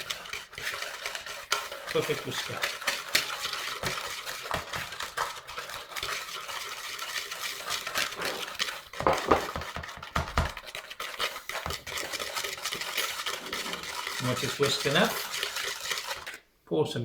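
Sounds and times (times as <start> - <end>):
whisk knocking on bowl: 0.0 - 16.4
whisk beating in a bowl: 0.0 - 16.5.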